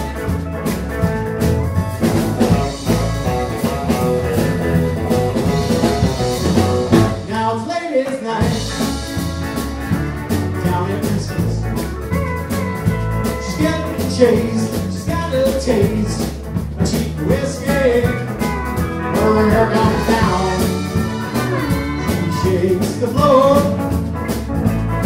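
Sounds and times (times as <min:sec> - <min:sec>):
country band playing: 0:00.0 - 0:25.0.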